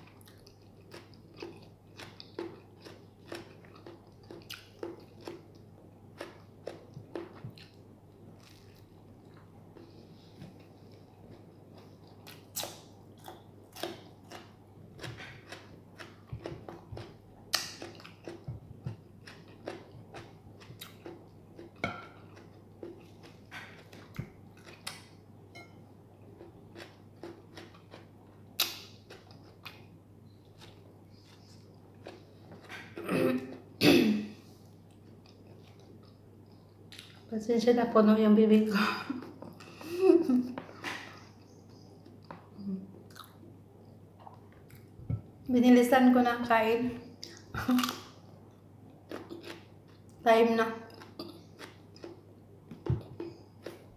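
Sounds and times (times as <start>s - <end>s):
person chewing: 0.0s - 33.8s, 34.4s - 37.3s, 39.2s - 43.4s, 48.9s - 50.2s, 50.9s - 53.9s.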